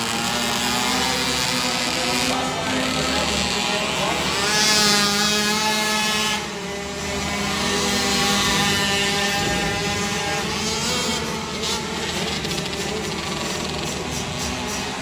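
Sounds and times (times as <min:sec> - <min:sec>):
quad engines racing: 0:00.0 - 0:15.0.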